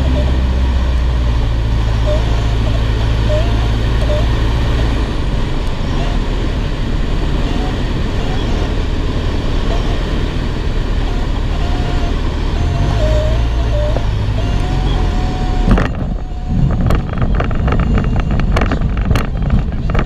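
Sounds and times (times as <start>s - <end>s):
light aircraft engine: 0.0s - 20.0s.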